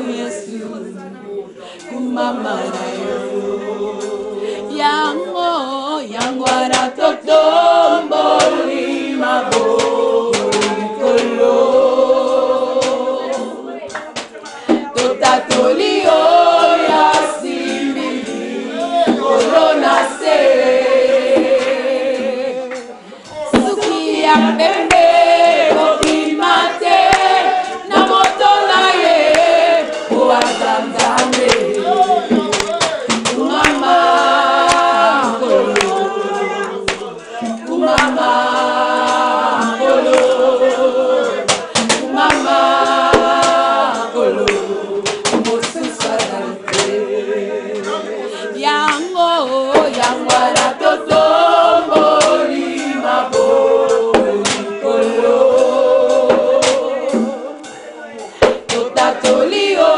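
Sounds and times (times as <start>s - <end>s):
women singing gospel in harmony: 0.0s - 59.9s.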